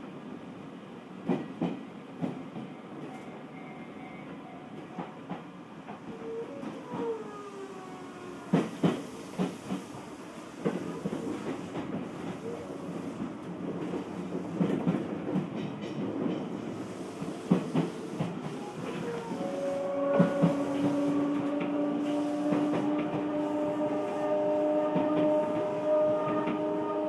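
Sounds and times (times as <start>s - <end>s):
train rolling noise: 0.0s - 27.0s.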